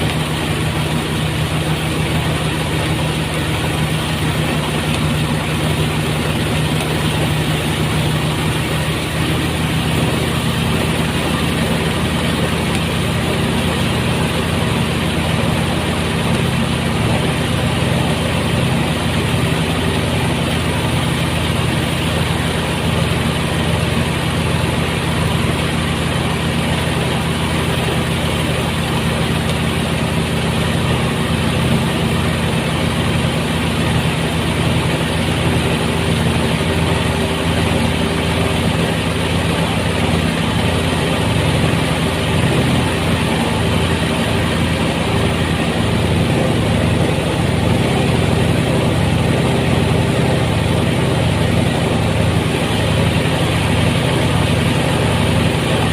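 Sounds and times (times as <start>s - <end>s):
threshing machine engine drone: 0.0s - 55.9s.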